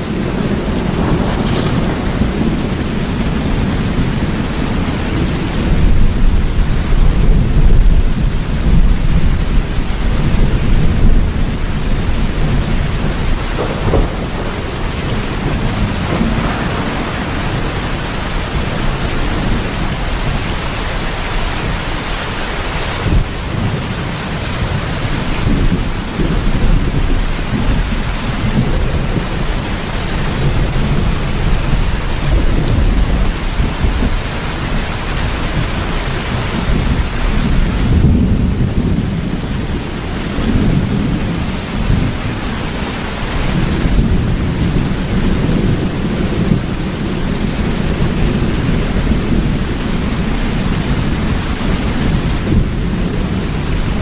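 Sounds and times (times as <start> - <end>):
rumble of thunder: 0.0 - 54.0
steady rain falling: 0.0 - 54.0.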